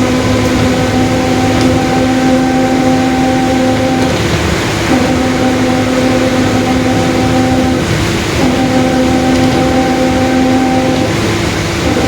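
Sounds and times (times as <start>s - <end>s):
bus engine: 0.0s - 12.0s
high differential whine: 0.0s - 12.0s
road noise: 0.0s - 12.0s.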